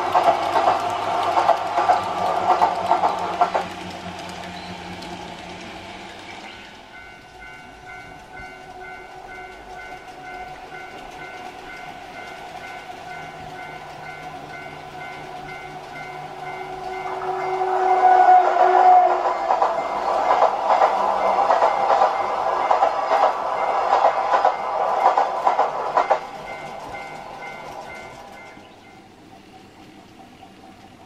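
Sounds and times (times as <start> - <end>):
freight train on rails: 0.0 - 31.0.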